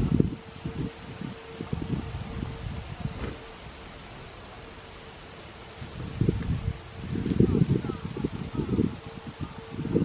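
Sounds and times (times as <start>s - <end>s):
faint metro train whine: 0.0s - 10.0s
wind gusting on microphone: 0.0s - 10.0s.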